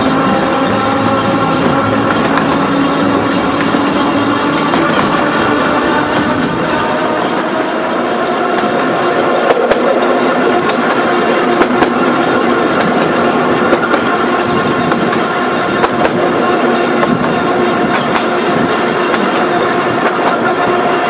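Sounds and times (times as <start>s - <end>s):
tram motor hum: 0.0s - 21.0s
wheels rumbling on rails: 0.0s - 21.0s.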